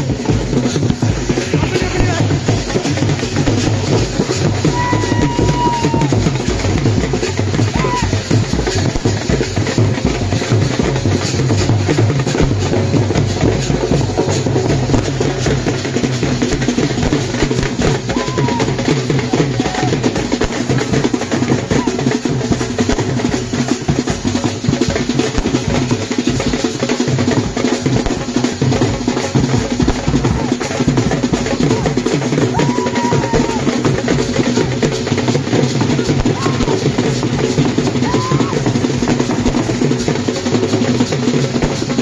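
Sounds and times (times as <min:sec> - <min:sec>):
bass drum: 0:00.0 - 0:42.0
snare drum rolls: 0:00.0 - 0:42.0.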